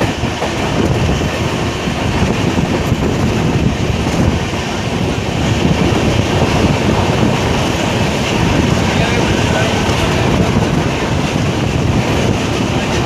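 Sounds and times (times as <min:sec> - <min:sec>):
train wheels rumbling on track: 0:00.0 - 0:13.0
wind on microphone: 0:00.0 - 0:13.0.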